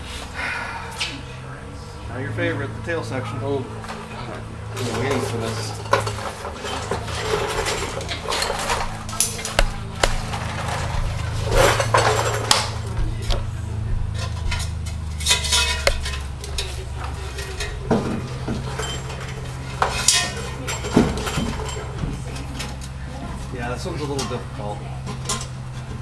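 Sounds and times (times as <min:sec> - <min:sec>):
steady low hum: 0:00.0 - 0:26.0
metal pipes clanking and scraping: 0:03.8 - 0:26.0.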